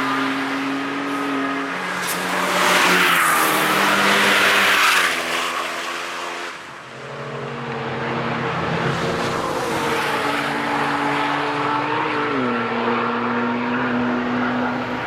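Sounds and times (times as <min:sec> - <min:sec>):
race car passing by: 0:00.0 - 0:15.0.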